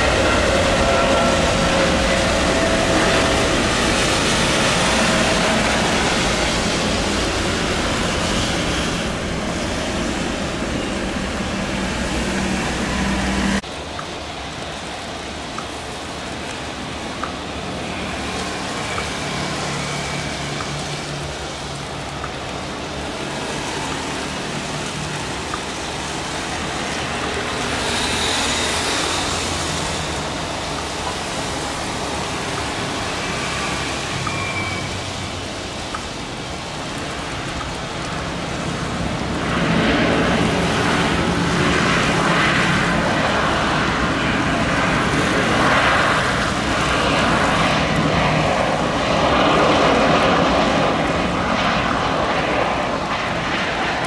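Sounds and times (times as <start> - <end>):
distant jet landing: 0.0 - 13.8, 21.6 - 54.0
jet engines at takeoff thrust: 0.0 - 54.0
rain hiss: 0.0 - 54.0.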